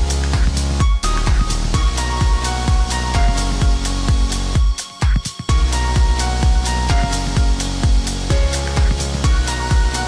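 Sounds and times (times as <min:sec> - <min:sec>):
electronic dance music: 0:00.0 - 0:10.0
heavy bass: 0:00.0 - 0:10.0
kick drum beat: 0:00.0 - 0:10.0.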